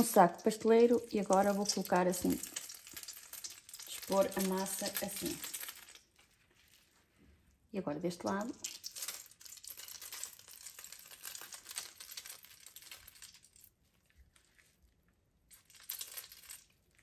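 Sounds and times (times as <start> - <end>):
piping bag crinkling: 0.0 - 17.0.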